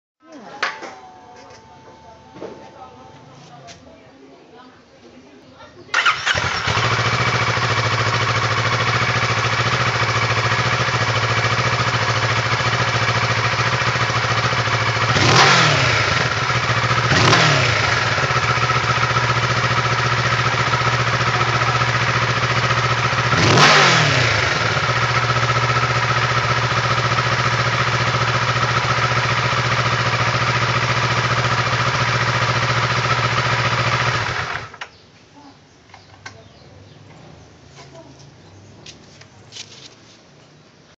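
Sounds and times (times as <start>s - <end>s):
motorcycle engine idling and revving: 5.9s - 39.9s.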